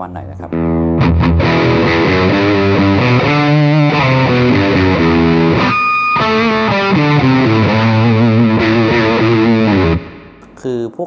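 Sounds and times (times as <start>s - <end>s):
distorted electric guitar riff: 0.4s - 10.6s.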